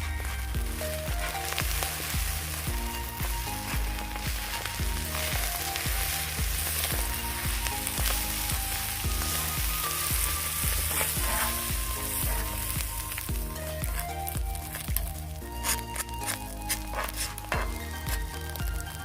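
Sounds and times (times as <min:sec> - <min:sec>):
light background music: 0:00.0 - 0:19.0
rice sizzling on a griddle: 0:00.0 - 0:19.0.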